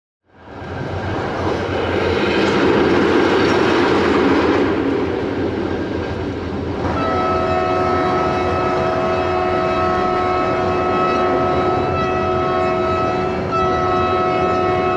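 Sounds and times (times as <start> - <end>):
train rumble and rattle: 0.4 - 14.9.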